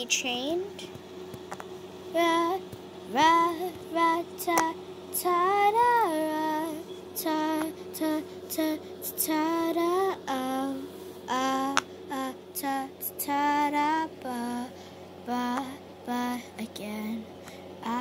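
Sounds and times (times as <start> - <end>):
girl singing: 2.1 - 18.0.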